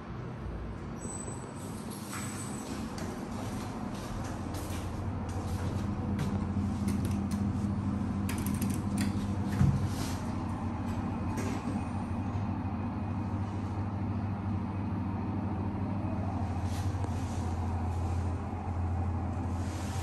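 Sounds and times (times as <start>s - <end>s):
lift car humming: 0.7s - 20.0s.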